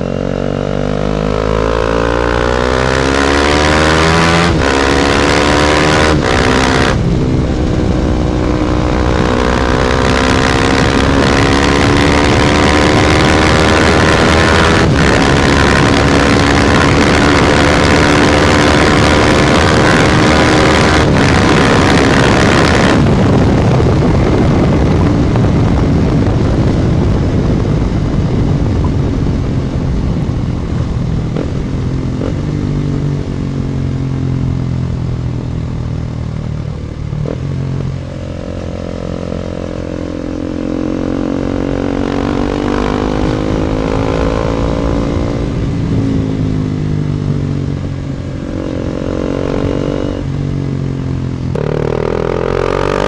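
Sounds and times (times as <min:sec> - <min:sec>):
motorcycle engine accelerating: 0:00.0 - 0:53.0
wind buffeting microphone: 0:00.0 - 0:53.0.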